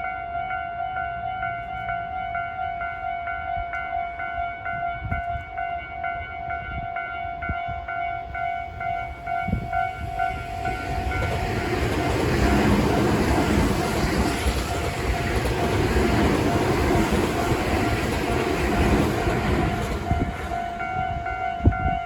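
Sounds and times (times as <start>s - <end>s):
level crossing warning bell: 0.0s - 22.0s
train wheels rumbling on rails: 1.6s - 22.0s.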